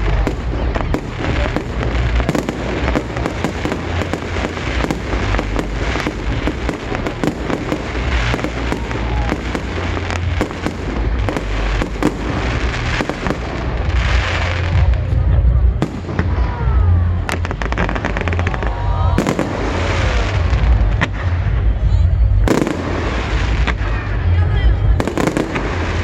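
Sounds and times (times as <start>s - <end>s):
deep firework booms: 0.0s - 26.0s
fireworks bangs and crackling: 0.0s - 26.0s.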